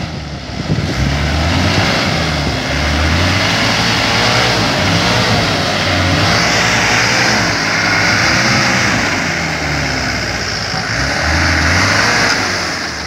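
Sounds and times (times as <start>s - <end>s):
diesel engine at low revs: 0.0s - 13.0s.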